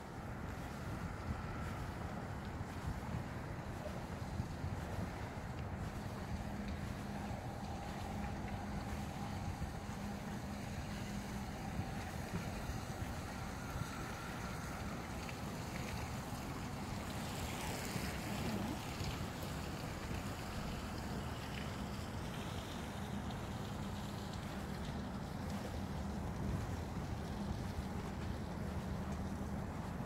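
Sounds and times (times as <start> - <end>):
faint low hum: 0.0 - 30.0
low outdoor rumble: 0.0 - 30.0.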